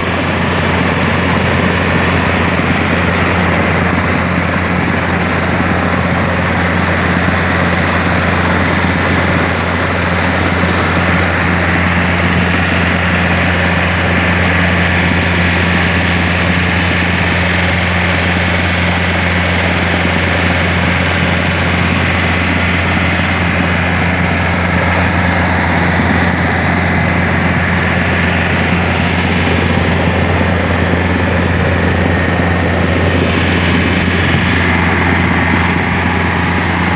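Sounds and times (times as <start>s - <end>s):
drilling machine engine humming: 0.0s - 36.9s.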